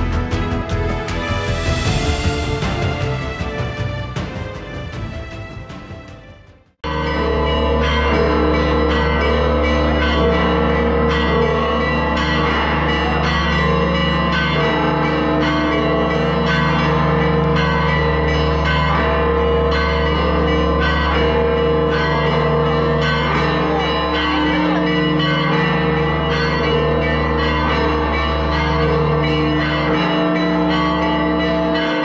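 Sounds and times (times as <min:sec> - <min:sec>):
church bells pealing: 0:00.0 - 0:32.0.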